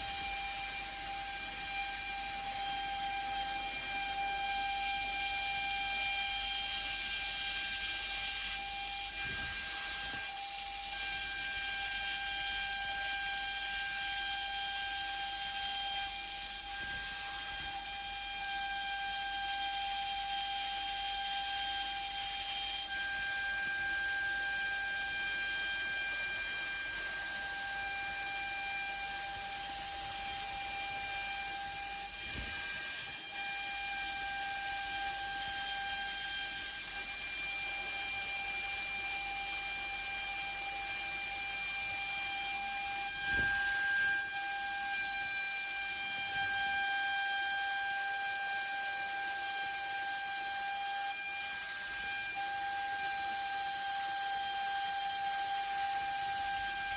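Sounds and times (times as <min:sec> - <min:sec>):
cnc spindle whine: 0:00.0 - 0:56.9.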